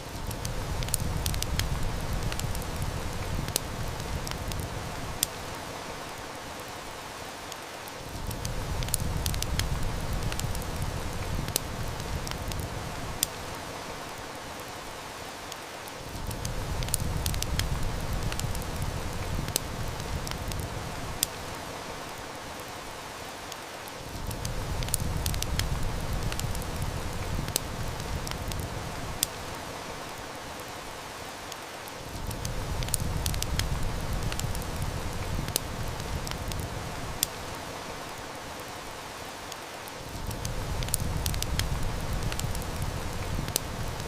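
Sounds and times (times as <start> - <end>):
heavy rain hissing: 0.0 - 44.0
wood fire crackling: 0.0 - 44.0.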